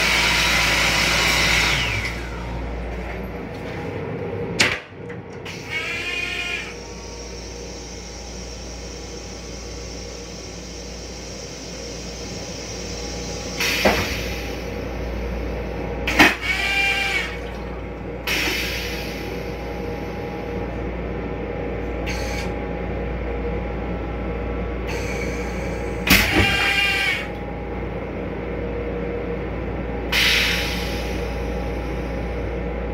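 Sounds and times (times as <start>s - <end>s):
steady hum: 1.8s - 16.4s, 17.0s - 32.9s.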